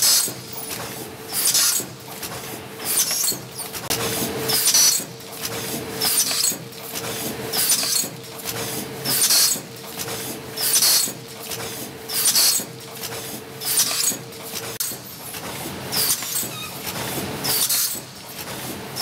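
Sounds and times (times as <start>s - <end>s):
packing machine hiss: 0.0s - 19.0s.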